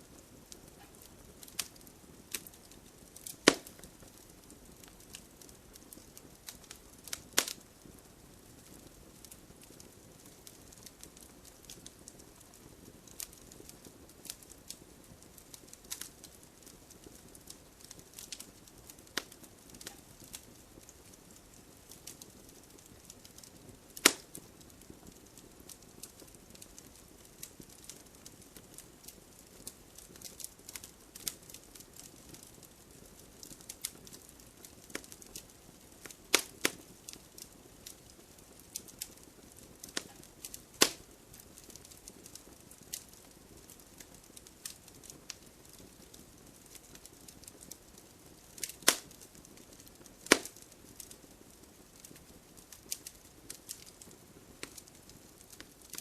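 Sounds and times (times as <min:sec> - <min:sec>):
firewood crackling: 0:00.0 - 0:56.0
loud sharp pops of fire: 0:00.2 - 0:56.0.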